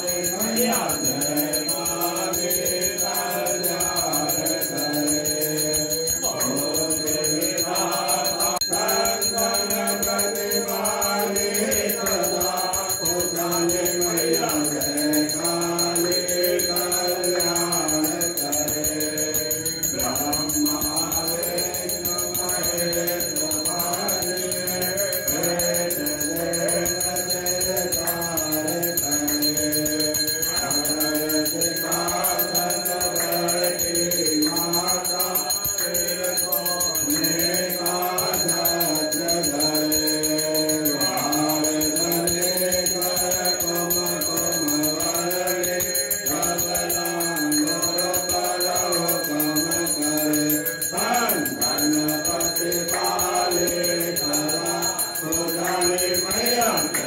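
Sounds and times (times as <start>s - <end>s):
group singing a hymn: 0.0s - 57.0s
temple bell ringing: 0.0s - 57.0s.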